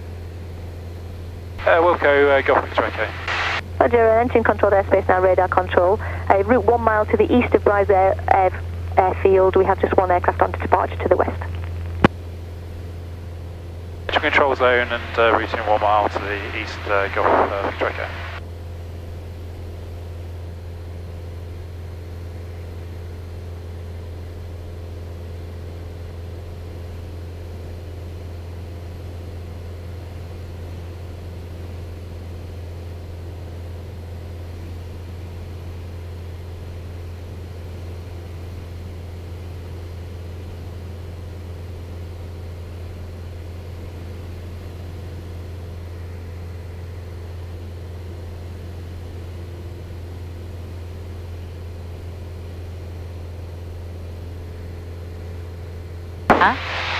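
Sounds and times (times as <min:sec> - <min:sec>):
light aircraft engine droning: 0:00.0 - 0:56.9.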